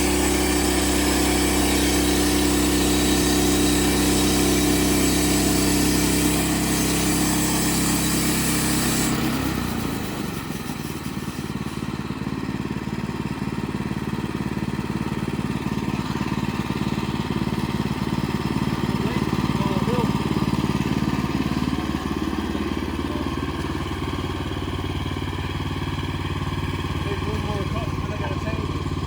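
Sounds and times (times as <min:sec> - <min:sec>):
sawmill gas engine running: 0:00.0 - 0:29.0.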